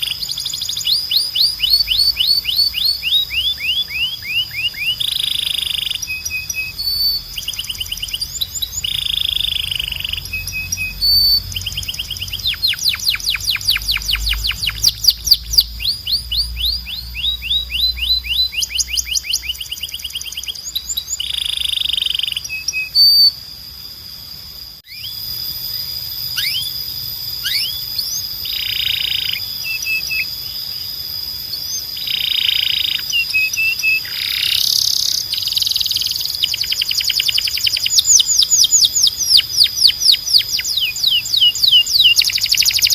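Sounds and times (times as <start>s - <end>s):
canary singing trills: 0.0s - 23.6s, 24.9s - 42.9s.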